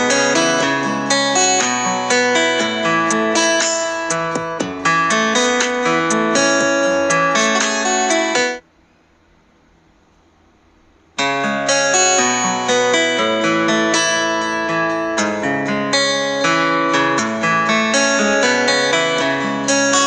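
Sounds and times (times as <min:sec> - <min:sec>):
plucked instrumental music: 0:00.0 - 0:08.6, 0:11.2 - 0:20.0.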